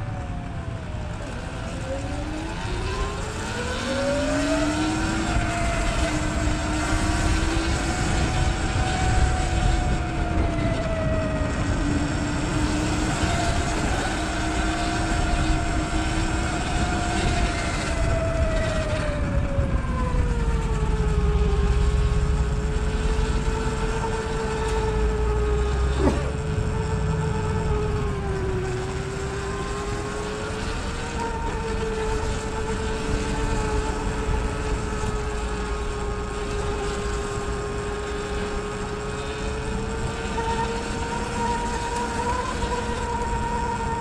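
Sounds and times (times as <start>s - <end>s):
electric motor whining: 0.0s - 44.0s
road rumble: 0.0s - 44.0s
wind: 0.0s - 44.0s.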